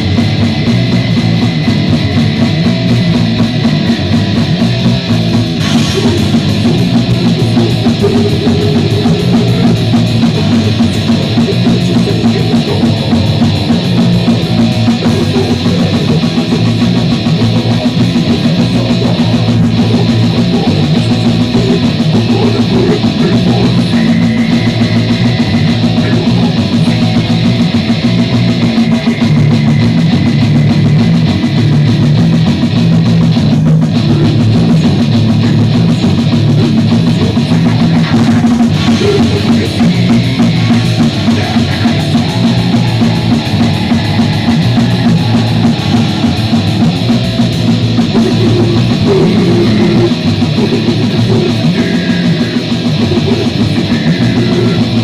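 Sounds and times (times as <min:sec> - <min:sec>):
distorted guitar riff: 0:00.0 - 0:55.0
drums: 0:00.0 - 0:55.0.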